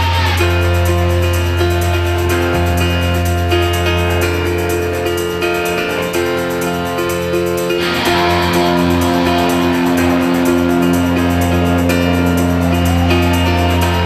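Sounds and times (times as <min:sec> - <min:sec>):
guitar playing chords: 0:00.0 - 0:14.0.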